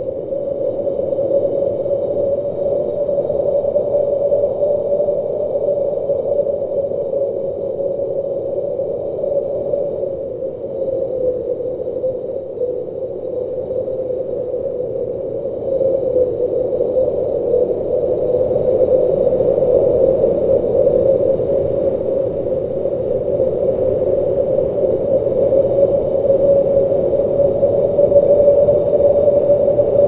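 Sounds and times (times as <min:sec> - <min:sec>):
blizzard wind blowing: 0:00.0 - 0:30.0.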